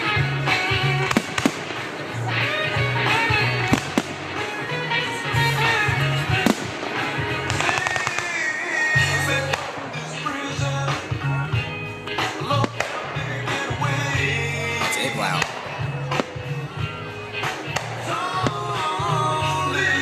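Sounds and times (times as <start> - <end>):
loud music with pulsing bass: 0.0 - 8.2, 9.0 - 20.0
fireworks banging: 0.0 - 11.1, 12.2 - 14.1, 14.8 - 16.8, 17.4 - 19.0
fireworks crackling: 0.0 - 11.1, 12.1 - 20.0.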